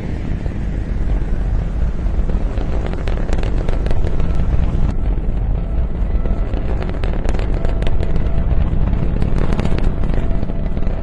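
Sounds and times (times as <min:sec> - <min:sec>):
dense crackling: 0:00.0 - 0:11.0
loud low rumble: 0:00.0 - 0:11.0.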